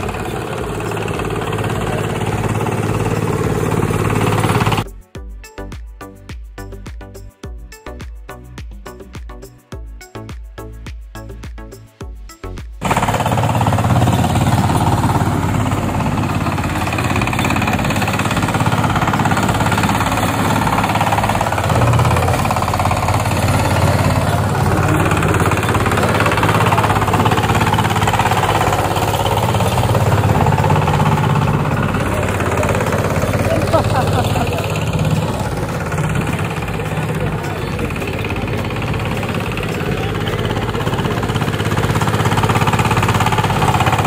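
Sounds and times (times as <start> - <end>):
diesel engine knocking clatter: 0.0 - 5.0, 12.8 - 44.0.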